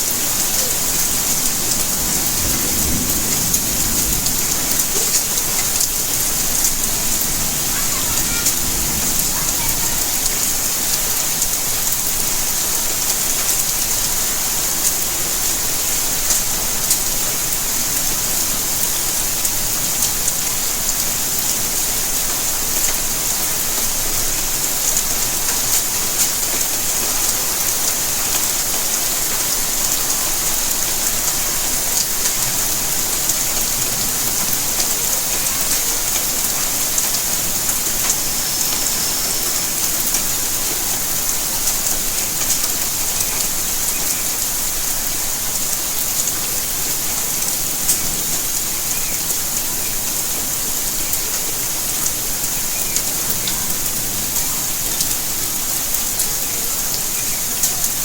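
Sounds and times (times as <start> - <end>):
raindrops ticking on surfaces: 0.0 - 58.0
steady rain hissing: 0.0 - 58.0.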